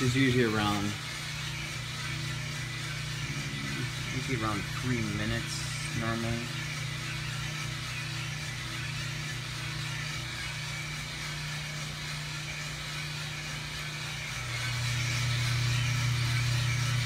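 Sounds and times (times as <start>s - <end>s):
coffee roaster humming: 0.0s - 17.0s.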